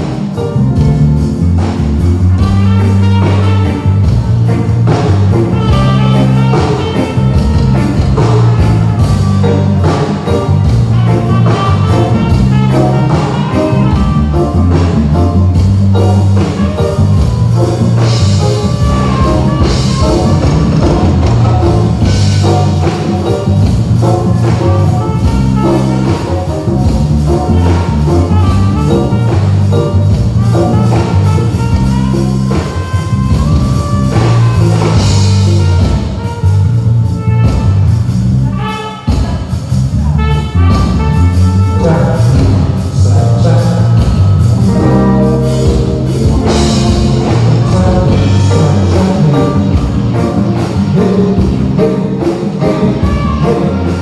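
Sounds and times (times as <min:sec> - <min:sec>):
bass line: 0:00.0 - 0:54.0
drum kit: 0:00.0 - 0:54.0
live band over pa system: 0:00.0 - 0:54.0.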